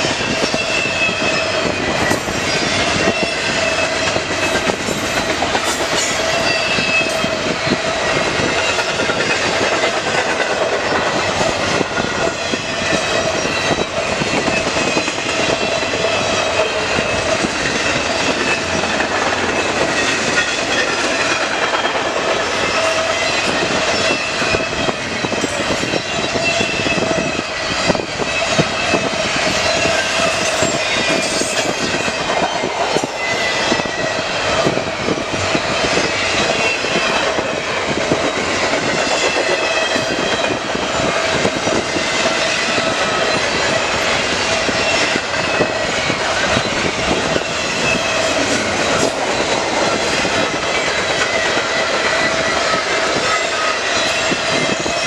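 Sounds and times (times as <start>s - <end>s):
freight cars rumbling and rattling: 0.0s - 55.0s.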